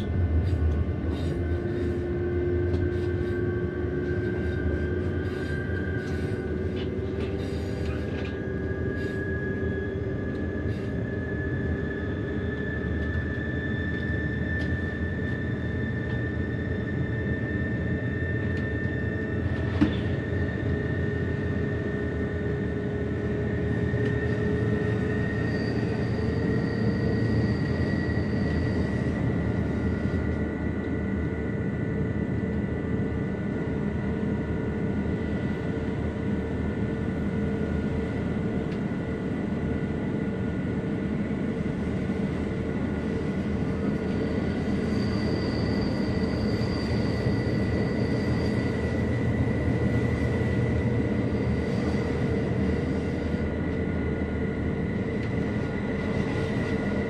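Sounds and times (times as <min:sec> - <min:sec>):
steady whining tones: 0:00.0 - 0:57.0
train wheels rumbling on rails: 0:00.0 - 0:57.0.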